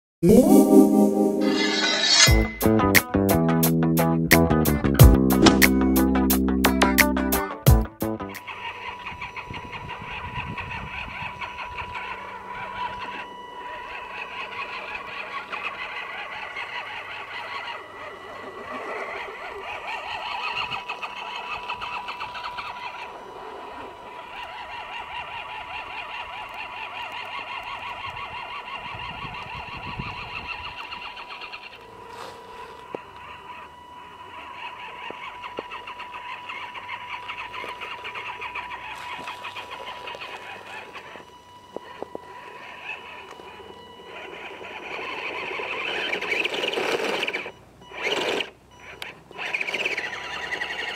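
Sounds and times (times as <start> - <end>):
rc car electric motor whine: 1.5 - 2.7, 8.2 - 50.9.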